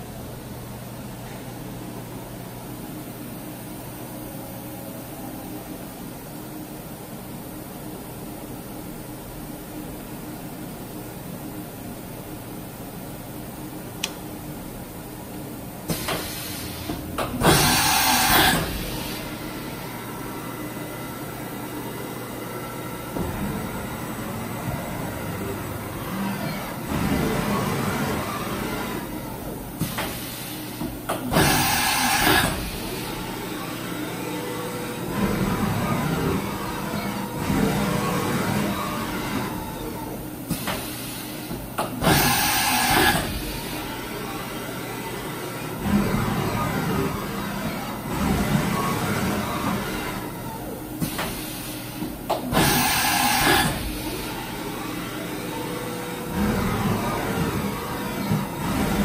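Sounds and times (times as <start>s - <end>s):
machining center hum: 0.0s - 59.0s.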